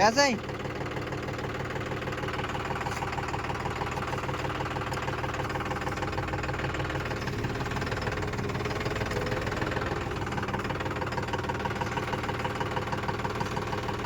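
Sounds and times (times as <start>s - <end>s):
diesel engine idling with clatter: 0.0s - 14.0s.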